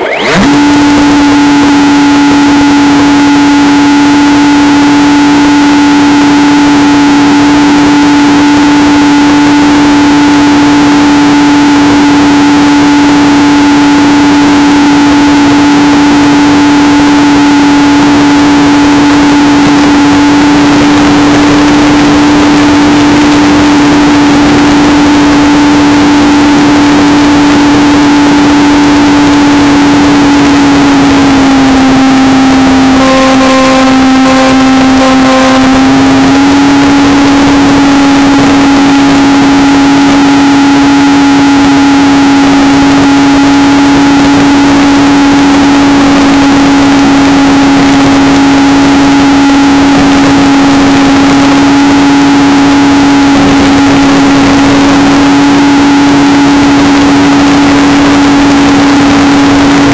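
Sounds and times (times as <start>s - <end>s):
model plane motor humming: 0.0s - 59.9s
wind noise: 0.0s - 59.9s.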